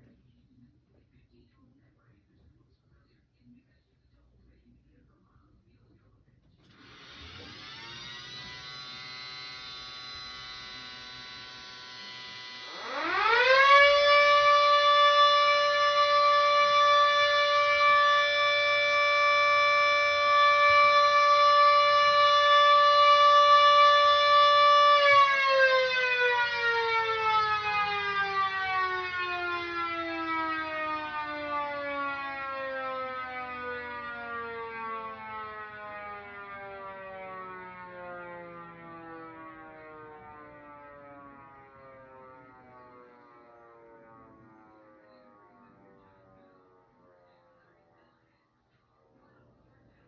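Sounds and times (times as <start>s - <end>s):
rotating siren wailing: 6.8s - 48.1s.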